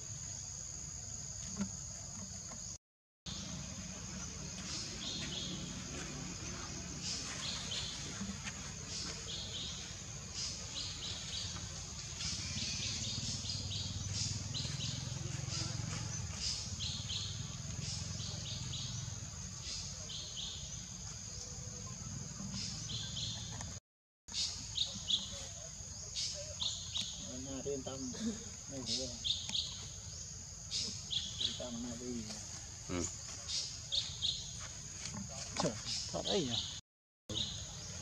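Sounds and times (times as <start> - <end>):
forest birds chirping: 0.0 - 38.0.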